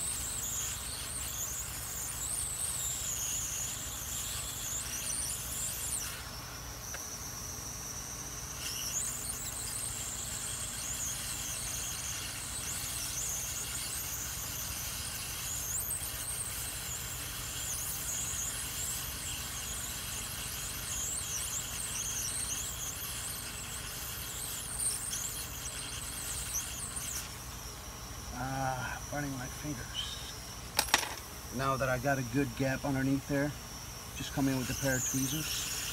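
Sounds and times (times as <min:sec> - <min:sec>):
high wavering squeals: 0:00.0 - 0:35.9
hot air gun blowing: 0:00.0 - 0:35.9.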